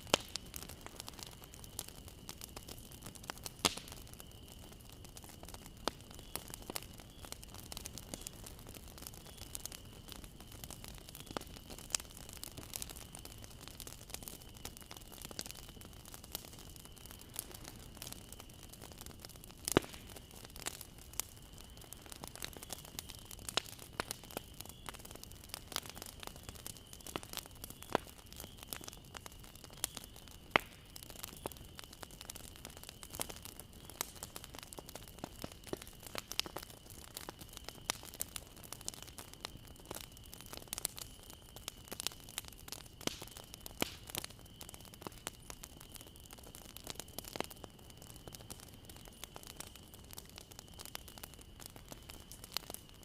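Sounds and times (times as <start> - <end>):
bonfire crackling and popping: 0.0 - 53.0.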